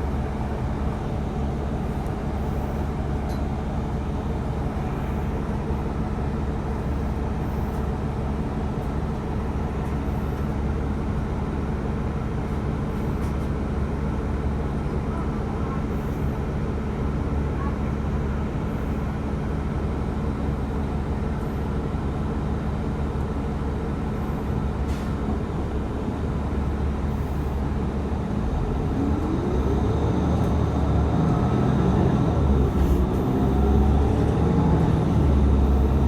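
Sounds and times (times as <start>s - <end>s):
bus engine and road rumble: 0.0s - 36.0s.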